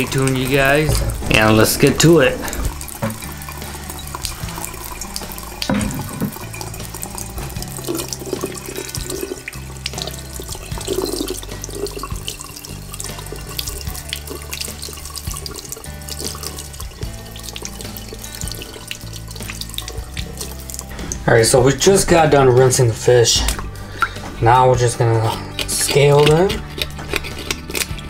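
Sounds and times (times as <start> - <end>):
faucet running into sink: 0.0 - 28.0.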